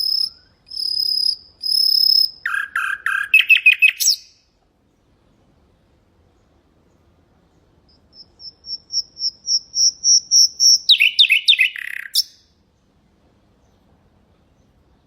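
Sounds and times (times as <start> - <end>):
nightingale singing: 0.0 - 5.4, 6.3 - 13.0.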